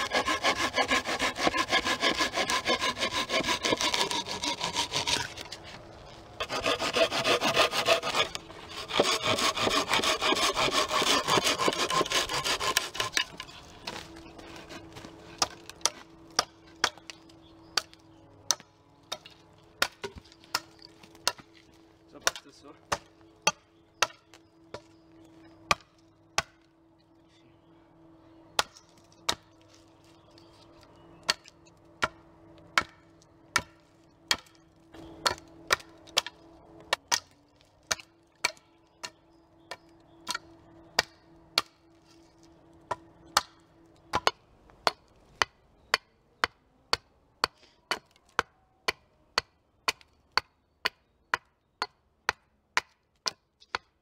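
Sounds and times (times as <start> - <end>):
hatchet chopping wood: 0.0 - 5.5, 6.4 - 21.6, 22.2 - 25.0, 25.7 - 26.6, 28.6 - 29.7, 31.2 - 34.6, 35.2 - 37.3, 37.9 - 41.8, 42.9 - 54.0.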